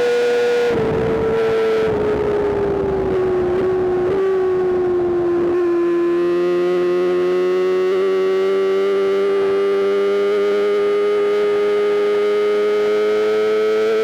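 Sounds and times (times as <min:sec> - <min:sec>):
motorcycle engine howling at high revs: 0:00.0 - 0:14.0.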